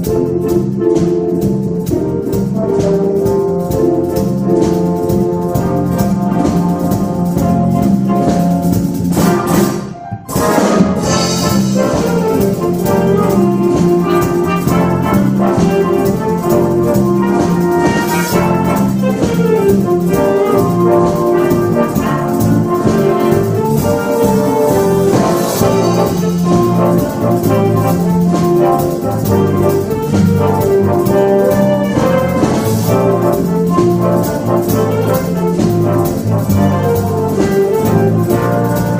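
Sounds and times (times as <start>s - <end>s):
big band playing: 0.0s - 38.9s.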